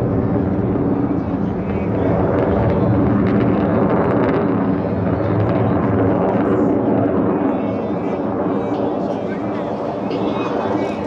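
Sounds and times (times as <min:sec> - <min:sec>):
jet engines flying over: 0:00.0 - 0:11.0.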